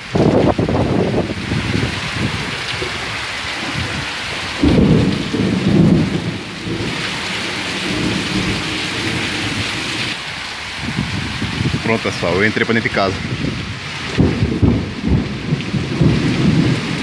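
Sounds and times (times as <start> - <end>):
low thunder rumble: 0.0 - 10.2, 10.8 - 17.0
heavy rain falling: 0.0 - 17.0.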